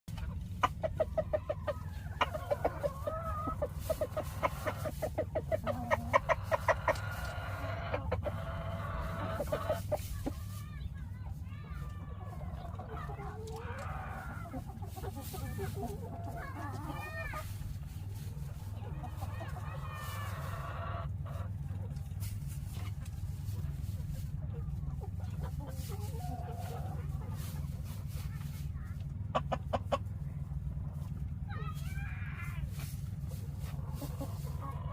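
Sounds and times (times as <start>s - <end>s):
chickens clucking: 0.1s - 34.9s
steady low hum: 0.1s - 34.9s.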